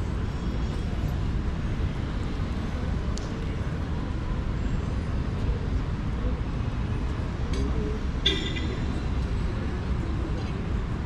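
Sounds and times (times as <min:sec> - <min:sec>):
hum of voices: 0:00.0 - 0:11.0
traffic rumble: 0:00.0 - 0:11.0.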